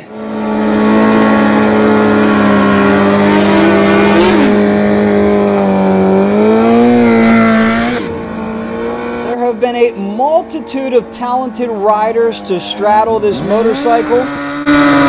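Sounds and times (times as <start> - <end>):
motorbike engine revving high: 0.0 - 15.0.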